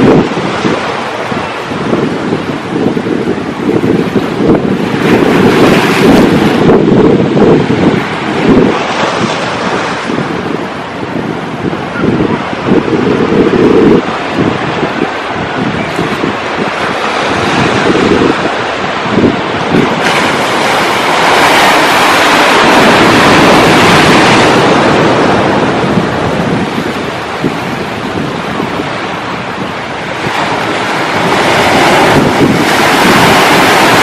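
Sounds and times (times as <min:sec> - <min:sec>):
sea waves breaking on shore: 0:00.0 - 0:34.0
wind buffeting microphone: 0:00.0 - 0:34.0.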